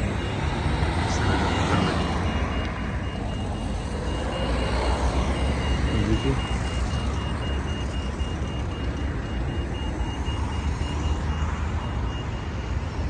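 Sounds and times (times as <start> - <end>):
high electronic beeping: 0.0 - 12.9
traffic rumble: 0.0 - 13.0.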